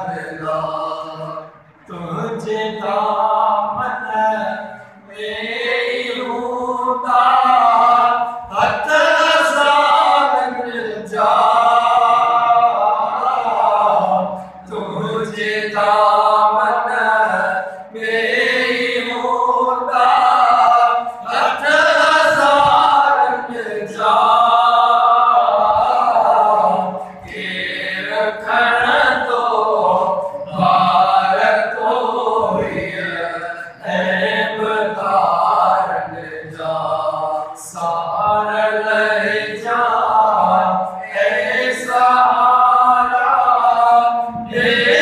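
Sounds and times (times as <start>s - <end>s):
man singing unaccompanied: 0.0s - 45.0s.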